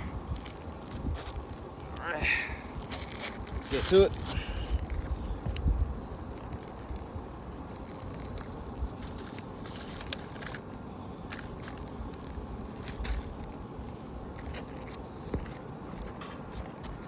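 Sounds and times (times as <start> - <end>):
small clicks and crackles: 0.2 - 2.1, 2.7 - 17.0.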